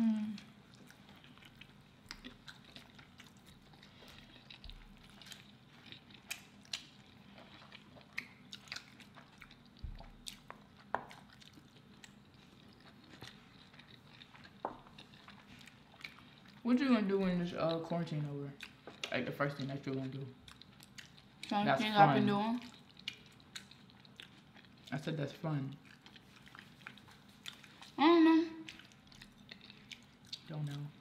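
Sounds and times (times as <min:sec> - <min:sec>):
people chewing food: 0:00.0 - 0:31.0.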